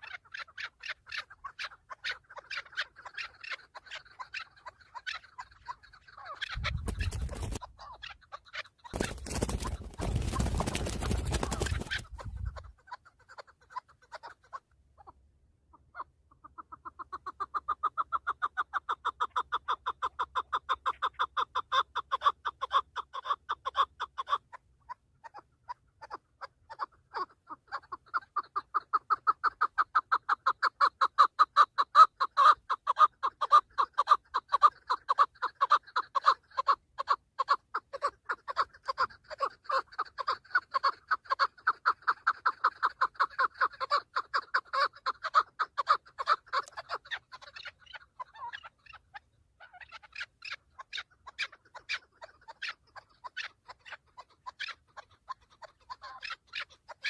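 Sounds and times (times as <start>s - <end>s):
partridge clucking calls: 0.0s - 57.0s.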